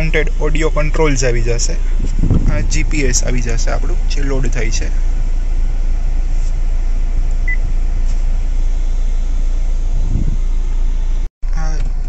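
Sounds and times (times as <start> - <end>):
air conditioning: 0.0 - 12.0
idling engine hum: 0.0 - 12.0.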